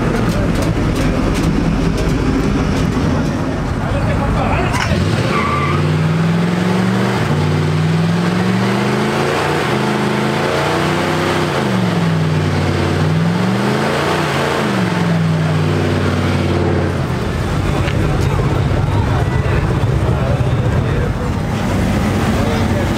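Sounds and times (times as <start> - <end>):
vehicle engine revving: 0.0 - 22.9.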